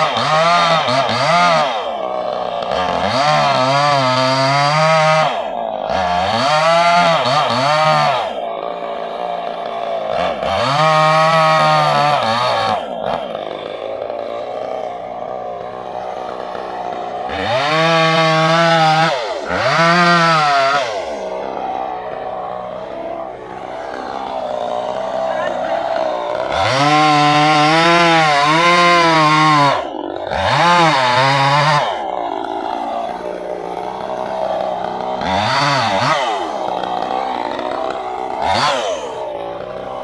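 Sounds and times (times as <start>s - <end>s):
chainsaw engine revving: 0.0s - 40.0s.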